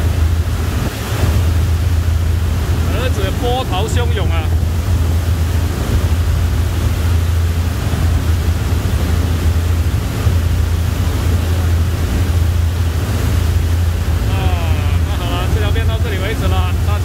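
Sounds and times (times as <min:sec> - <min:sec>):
low engine drone: 0:00.0 - 0:17.0
rough sea waves rushing: 0:00.0 - 0:17.0
wind on microphone: 0:00.0 - 0:17.0.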